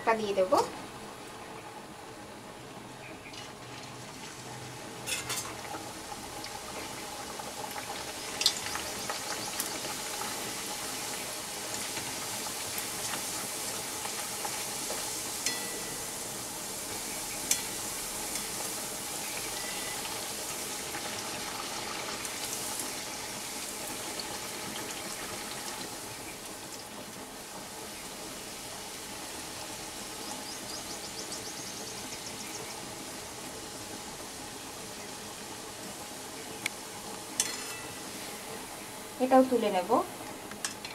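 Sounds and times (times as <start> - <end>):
flatbread sizzling in hot oil: 3.1 - 40.9.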